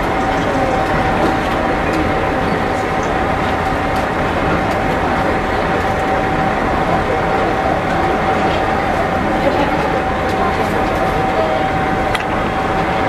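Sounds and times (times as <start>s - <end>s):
constant high hum: 0.0s - 13.0s.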